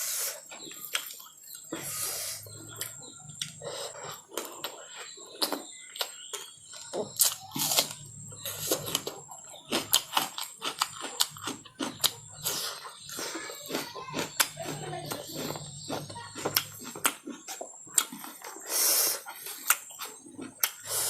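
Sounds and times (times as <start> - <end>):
person chewing and smacking: 0.4 - 21.0.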